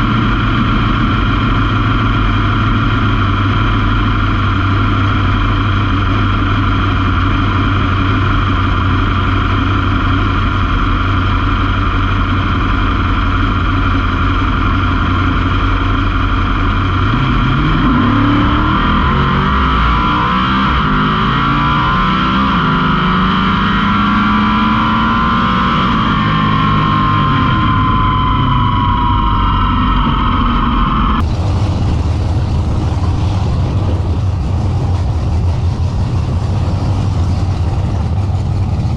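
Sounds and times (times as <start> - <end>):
high whine: 0.0 - 38.9
race car engine idling: 0.0 - 38.9.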